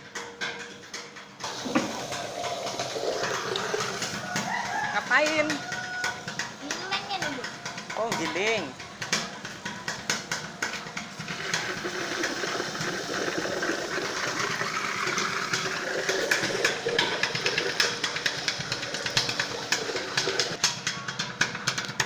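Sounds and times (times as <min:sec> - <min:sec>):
grinding clicks and knocks: 0:00.0 - 0:22.0.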